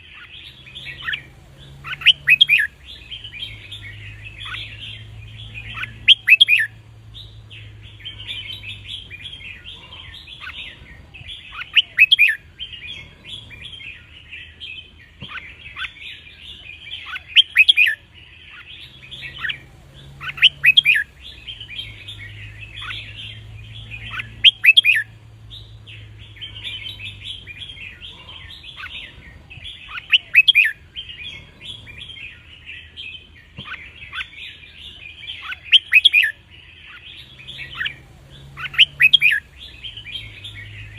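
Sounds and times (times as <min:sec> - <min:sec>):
bulbuls chirping: 0:00.0 - 0:40.9
loud bird song phrase: 0:00.0 - 0:40.9.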